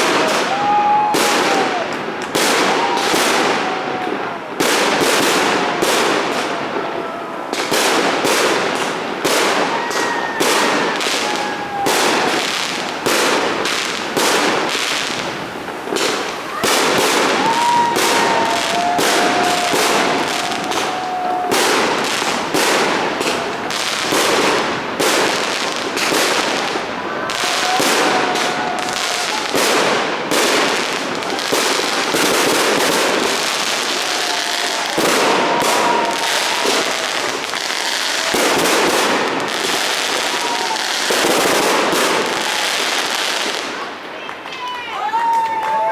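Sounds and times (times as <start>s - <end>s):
fireworks whistling: 0.0s - 43.7s
fireworks bangs and crackles: 0.0s - 45.9s.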